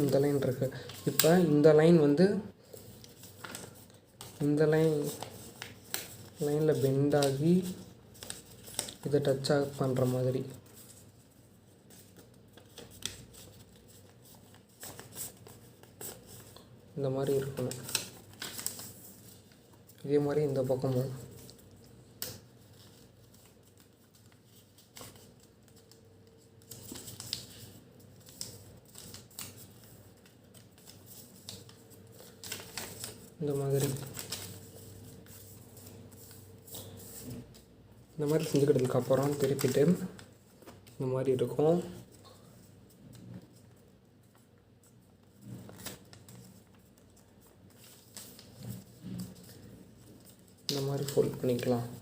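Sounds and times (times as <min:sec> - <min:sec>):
paper rustling and creasing: 0:00.0 - 0:52.0.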